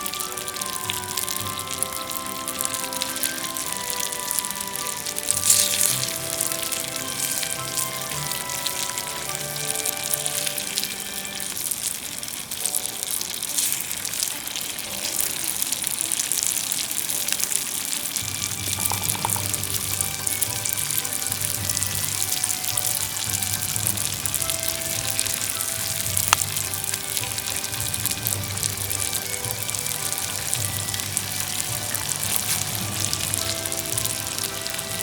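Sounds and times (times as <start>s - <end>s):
background music: 0.0s - 35.0s
oil sizzling in a skillet: 0.0s - 35.0s.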